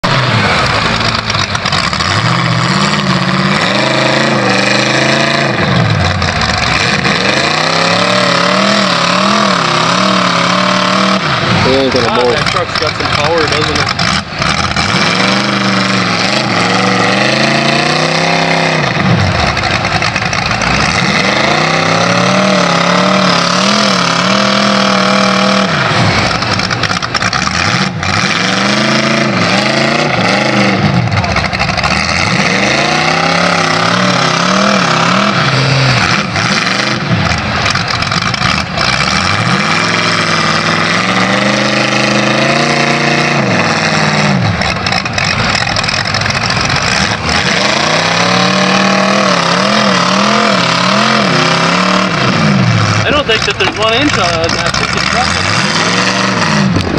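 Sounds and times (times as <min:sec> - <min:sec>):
diesel truck engine revving hard: 0:00.0 - 0:56.9.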